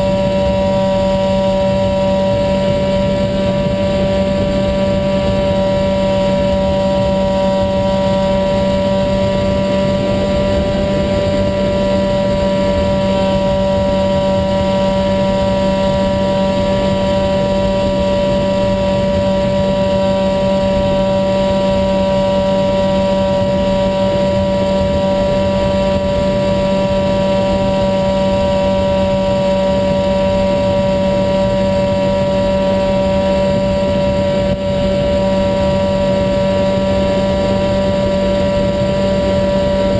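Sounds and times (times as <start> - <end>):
electric motor whine: 0.0 - 39.9
wind noise: 0.0 - 39.9.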